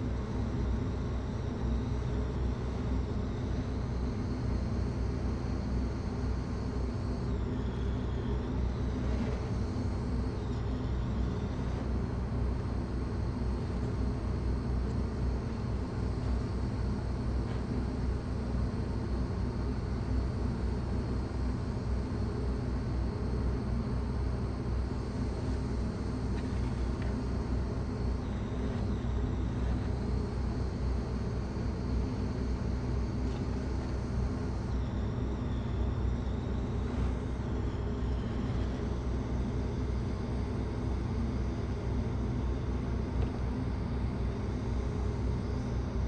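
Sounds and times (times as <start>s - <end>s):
steady low rumble with hum: 0.0s - 46.0s.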